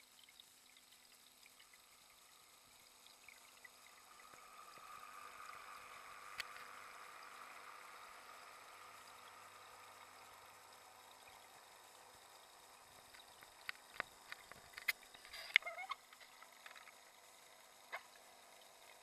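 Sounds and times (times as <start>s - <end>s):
muffled rush of water: 0.0s - 19.0s.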